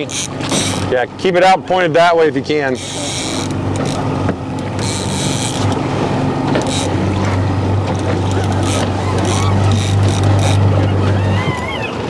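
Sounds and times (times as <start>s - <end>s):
boat motor humming: 0.0s - 12.0s
water splashing along hull: 0.0s - 12.0s.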